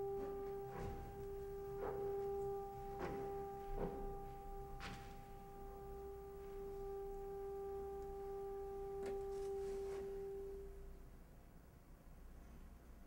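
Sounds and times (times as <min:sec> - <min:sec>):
orchestra holding a note: 0:00.0 - 0:11.0.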